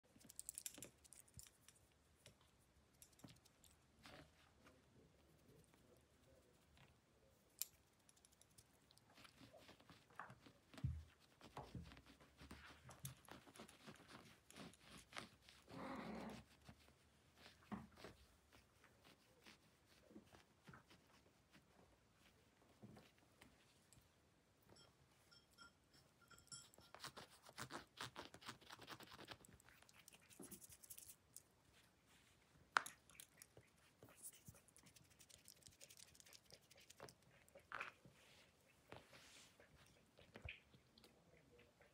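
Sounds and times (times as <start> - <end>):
kitten pawing and rustling: 0.1 - 24.8, 26.8 - 41.1.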